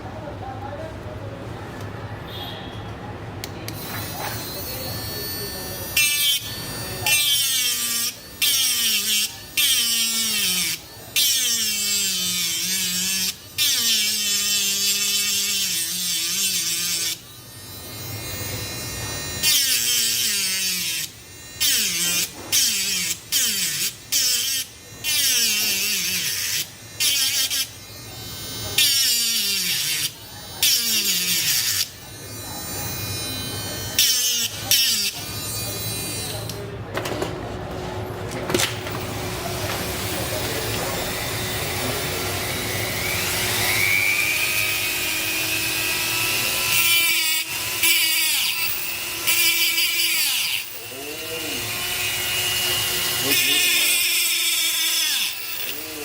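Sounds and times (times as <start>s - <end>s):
small electric power tool running: 3.8s - 36.6s, 38.6s - 56.0s.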